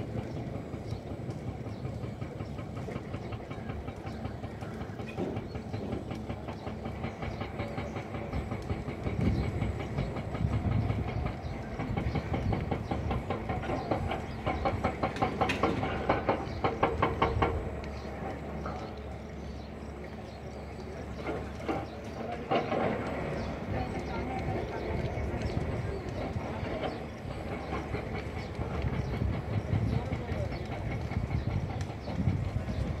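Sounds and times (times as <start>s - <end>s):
fire crackling and popping: 0.0s - 33.0s
low rumble of fire: 0.0s - 33.0s.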